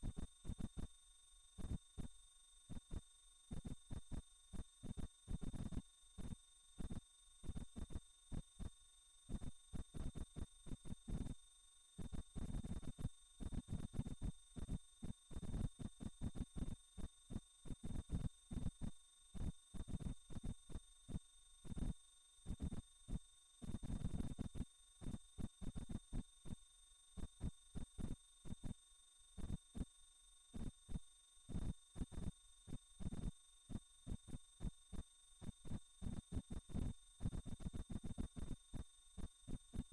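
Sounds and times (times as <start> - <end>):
pulsing high-pitched sine tone: 0.0 - 39.9.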